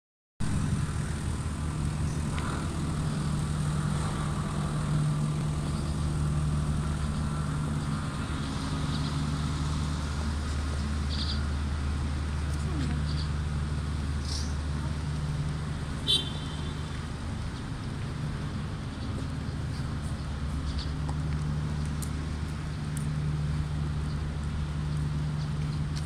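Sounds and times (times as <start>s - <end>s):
low mechanical hum: 0.4s - 26.0s.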